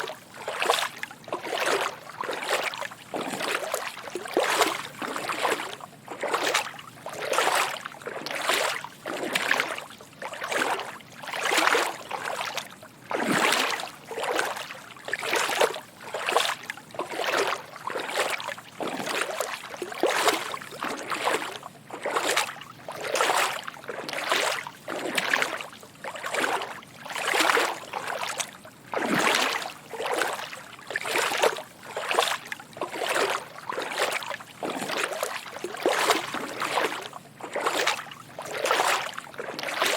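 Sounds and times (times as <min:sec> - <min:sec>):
footsteps wading through water: 0:00.0 - 0:39.9.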